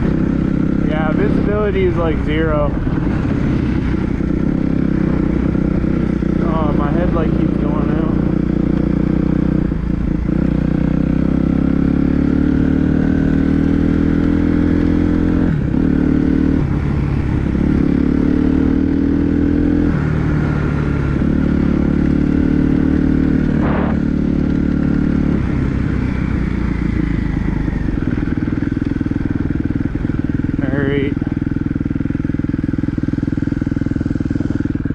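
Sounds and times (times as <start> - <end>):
dirt bike engine revving: 0.0 - 16.7, 17.3 - 34.9.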